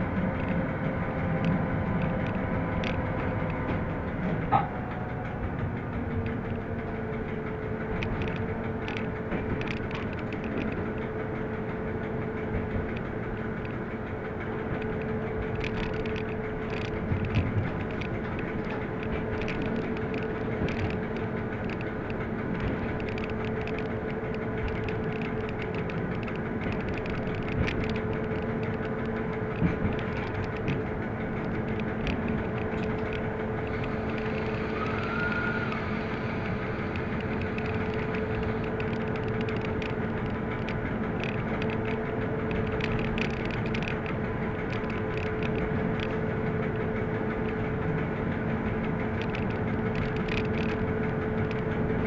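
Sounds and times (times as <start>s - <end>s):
diesel locomotive engine drone: 0.0s - 52.0s
wheel-on-rail clicks: 0.0s - 52.0s.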